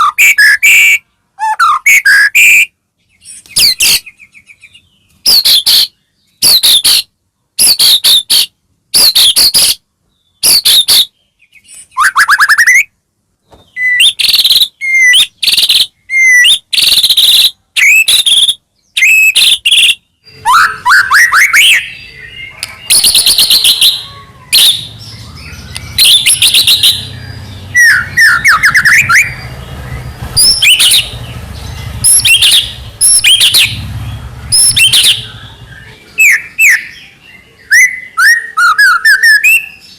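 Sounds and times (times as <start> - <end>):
songbird whistling and chattering: 0.0 - 13.0, 13.6 - 39.9.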